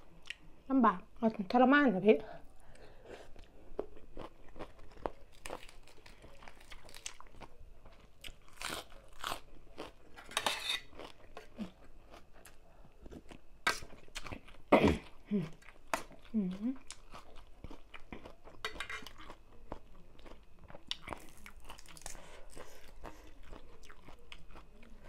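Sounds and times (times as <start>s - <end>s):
person chewing and crunching food: 2.9s - 25.0s.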